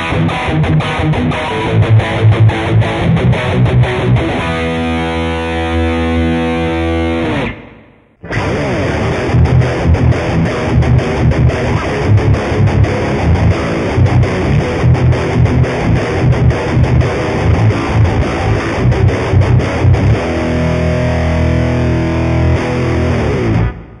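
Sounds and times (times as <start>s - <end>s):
electric guitar riff: 0.0s - 24.0s.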